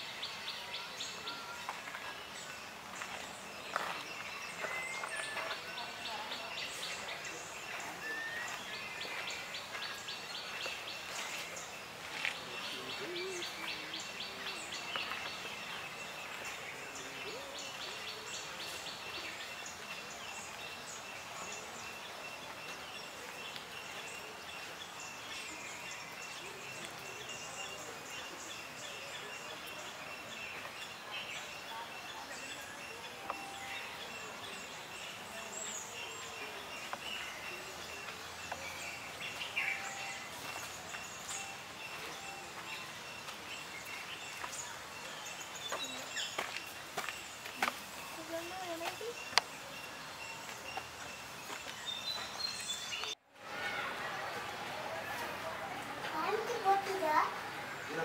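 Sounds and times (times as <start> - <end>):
birds chirping: 0.0 - 58.0
steady outdoor hiss: 0.0 - 58.0.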